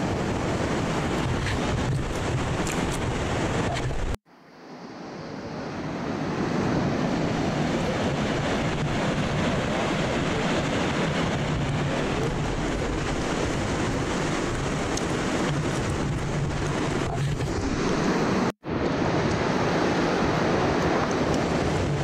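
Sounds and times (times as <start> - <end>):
ocean surf breaking on rocks: 0.0 - 4.2, 5.4 - 22.0.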